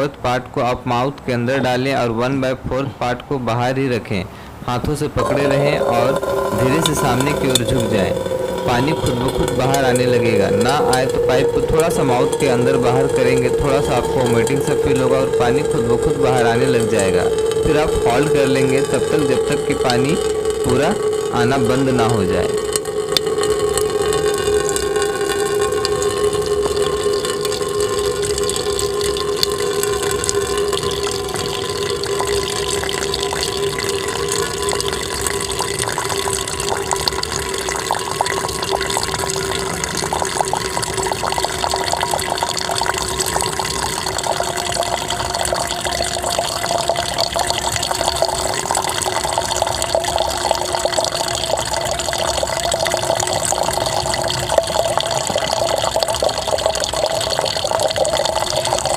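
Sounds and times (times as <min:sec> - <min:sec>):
steady tone: 0:05.0 - 0:54.6
water pouring and splashing: 0:05.2 - 0:58.9.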